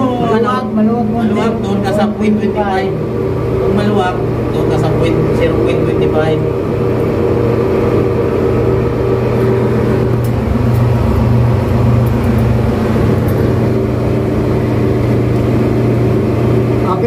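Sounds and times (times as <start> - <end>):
engine room machinery drone: 0.0 - 17.0.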